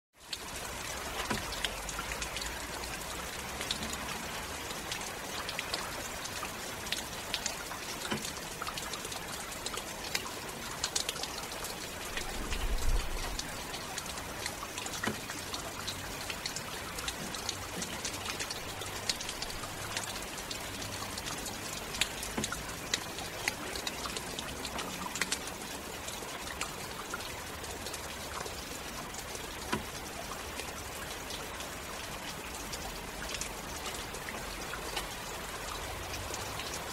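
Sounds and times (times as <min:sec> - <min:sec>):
heavy rain falling: 0:00.2 - 0:36.9.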